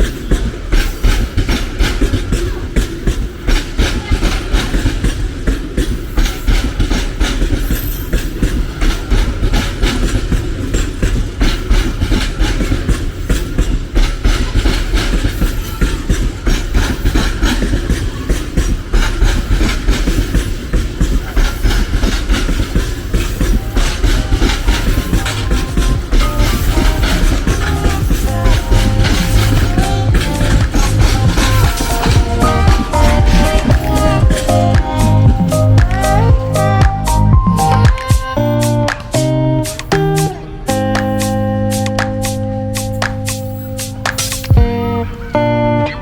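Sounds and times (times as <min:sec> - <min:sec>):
train wheels clattering on rails: 0:00.0 - 0:45.4.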